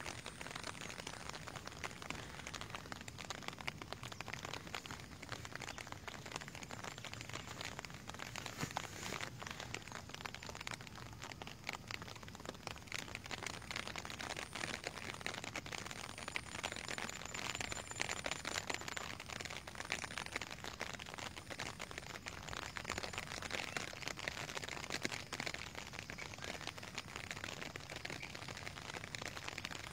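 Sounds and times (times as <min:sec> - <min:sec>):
rain falling on water and grass: 0:00.0 - 0:29.9.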